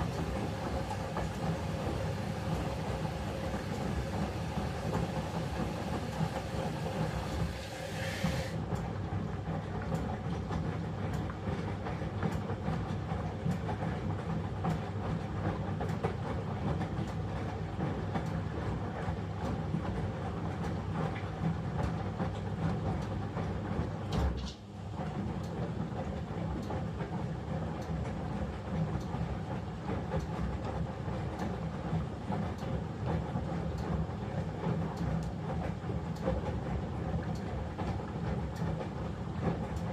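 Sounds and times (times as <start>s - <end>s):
washing machine motor hum: 0.0s - 24.1s, 24.7s - 39.9s.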